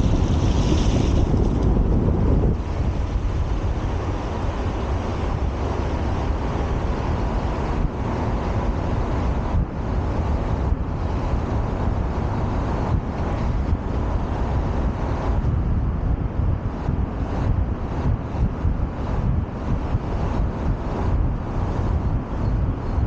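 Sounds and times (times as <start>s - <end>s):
street traffic: 0.0s - 23.0s
wind rumble on microphone: 0.0s - 23.0s.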